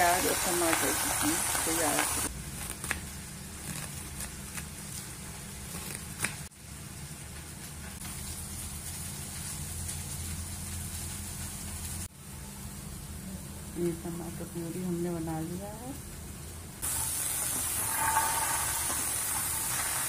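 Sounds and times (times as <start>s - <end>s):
low background hum: 0.0s - 17.4s.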